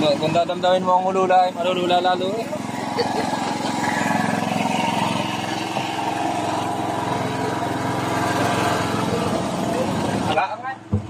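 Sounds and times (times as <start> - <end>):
boat engine running: 0.0 - 11.0
water splashing along hull: 0.0 - 11.0.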